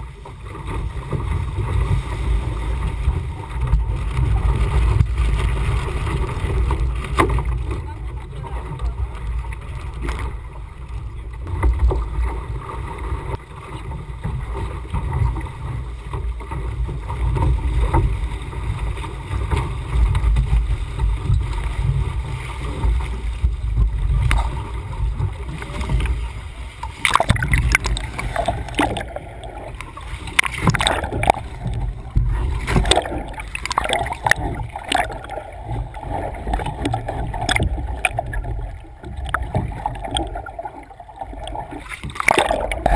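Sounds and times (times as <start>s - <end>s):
water gurgling and bubbling: 0.0s - 42.9s
water rushing against boat hull: 0.0s - 42.9s
water splashing: 0.0s - 42.9s.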